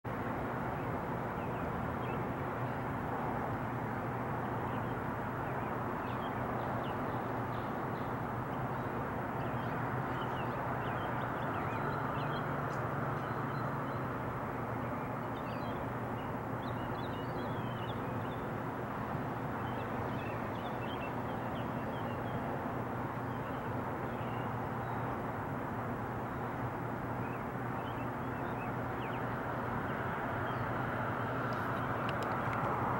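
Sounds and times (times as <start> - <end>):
outdoor background noise: 0.0 - 32.9
distant helicopter drone: 0.1 - 32.9.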